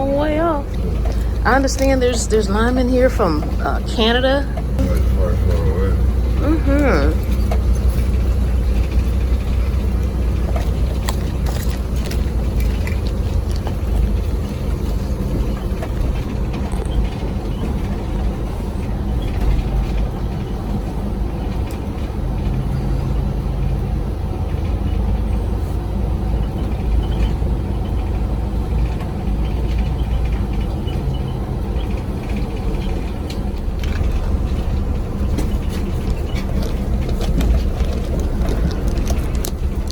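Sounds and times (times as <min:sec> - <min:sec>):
bus engine and road rumble: 0:00.0 - 0:39.9
faint clicks and rattles: 0:00.0 - 0:39.9.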